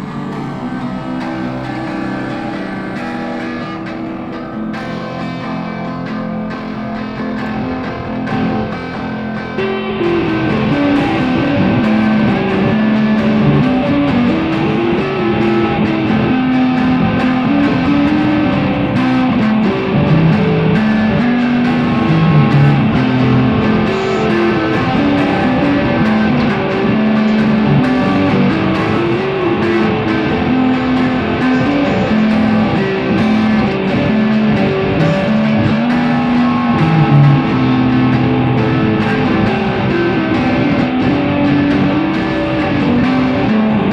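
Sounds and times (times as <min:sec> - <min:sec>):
bass guitar: 0:00.0 - 0:43.9
guitar band playing: 0:00.0 - 0:43.9.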